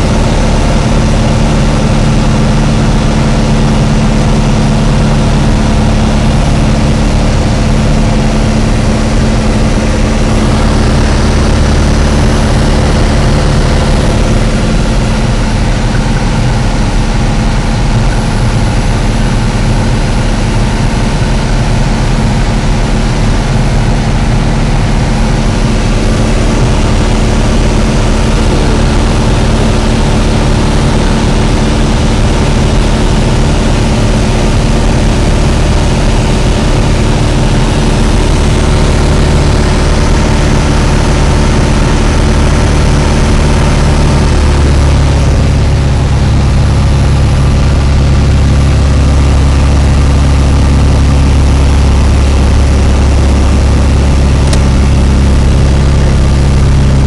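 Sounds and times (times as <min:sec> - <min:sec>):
aircraft engine and propeller droning: 0:00.0 - 0:57.0.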